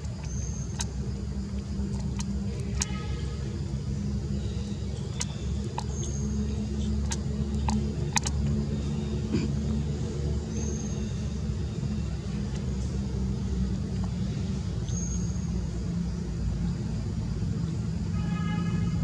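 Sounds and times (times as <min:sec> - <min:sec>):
low motor rumble: 0:00.0 - 0:19.0.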